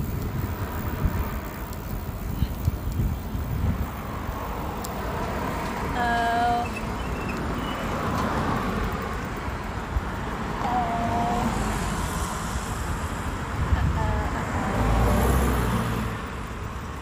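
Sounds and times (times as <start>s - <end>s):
bicycle road noise: 0.0s - 17.0s
cars passing: 0.0s - 17.0s
wind rumble on microphone: 0.0s - 17.0s.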